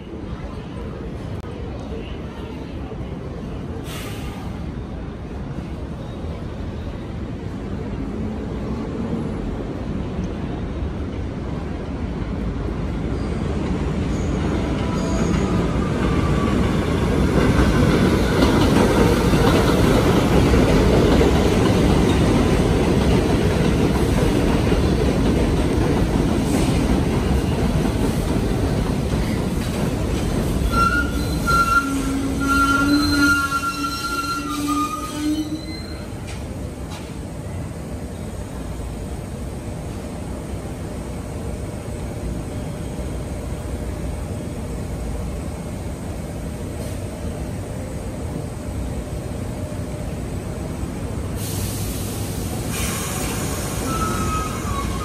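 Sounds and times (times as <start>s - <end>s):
subway train rumbling on rails: 0.0s - 55.0s.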